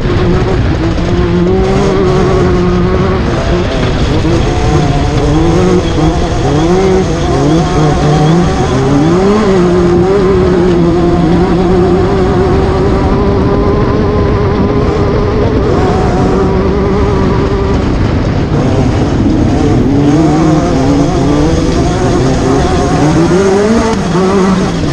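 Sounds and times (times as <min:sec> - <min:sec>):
loud rush of noise: 0:00.0 - 0:24.9
race car engine revving: 0:00.0 - 0:24.9.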